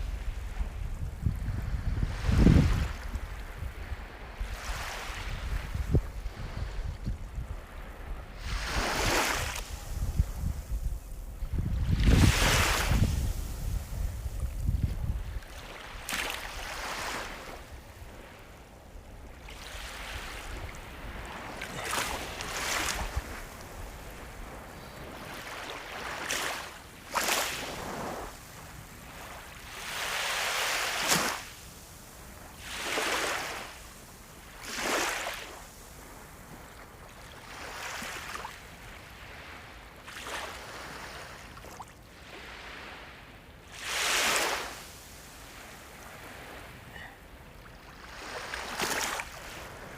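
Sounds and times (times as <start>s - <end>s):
low rumble of sea: 0.0s - 43.9s
waves breaking on shore: 0.0s - 49.9s.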